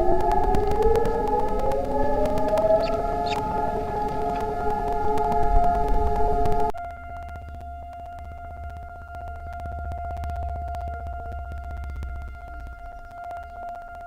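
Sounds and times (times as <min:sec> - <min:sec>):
steady siren tone: 0:00.0 - 0:14.0.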